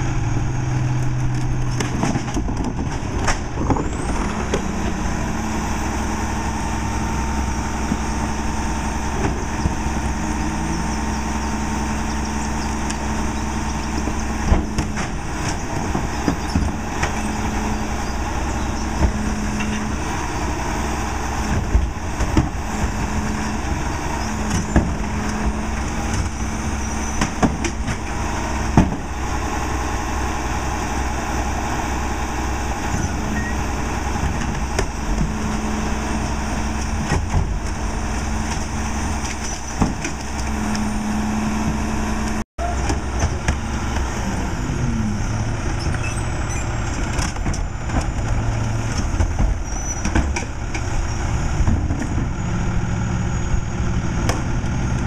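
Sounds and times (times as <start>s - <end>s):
garbage truck diesel engine running: 0.0s - 55.0s
hydraulic whine: 3.6s - 55.0s.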